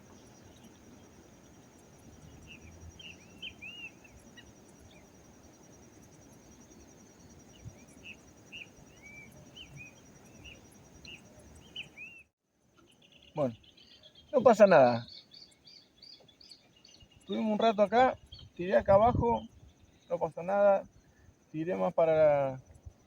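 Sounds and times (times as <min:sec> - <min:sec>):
birds chirping: 0:00.0 - 0:23.0
faint high insect trill: 0:00.0 - 0:23.0
low background hiss: 0:00.0 - 0:23.0.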